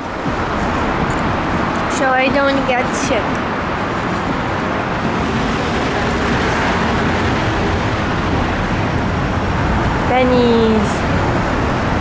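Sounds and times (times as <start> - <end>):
moving vehicle rumble and hiss: 0.0 - 12.0.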